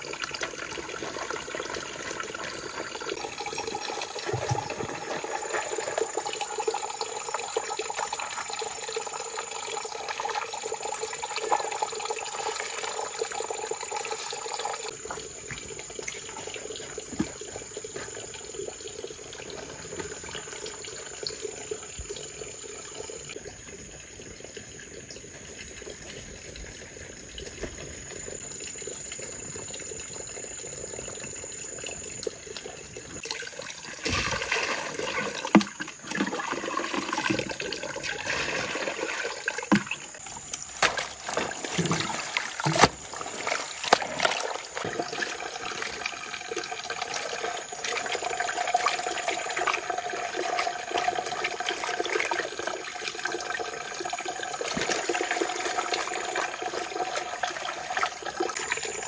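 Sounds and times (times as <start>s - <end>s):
water splashing in a plastic basin: 0.0s - 59.0s.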